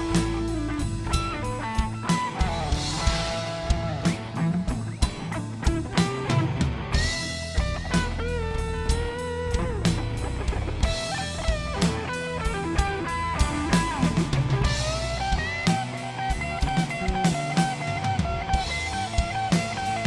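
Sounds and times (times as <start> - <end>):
bass guitar: 0.0 - 20.0
drums: 0.0 - 20.0
electric guitar solo: 0.0 - 20.0.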